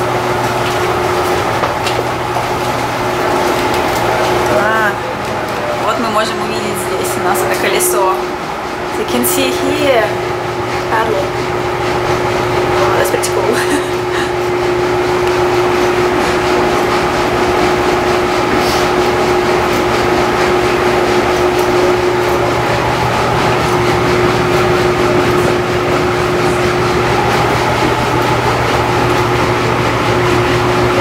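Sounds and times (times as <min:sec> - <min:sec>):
boat drive mechanical hum: 0:00.0 - 0:31.0
paddle wheel splashing water: 0:00.0 - 0:31.0.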